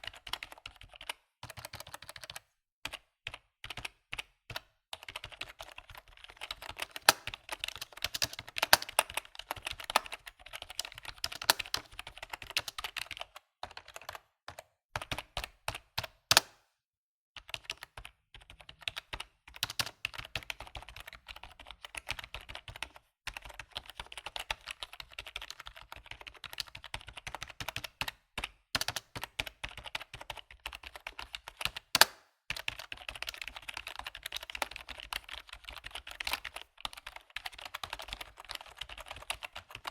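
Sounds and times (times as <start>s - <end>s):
computer keyboard typing: 0.0s - 16.6s, 17.4s - 39.9s.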